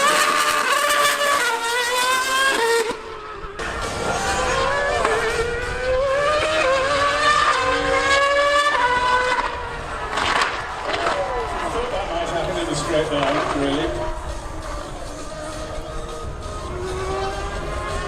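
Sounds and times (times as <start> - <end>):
motorcycle engine revving: 0.0 - 18.0
racing car engine revving: 0.0 - 18.0.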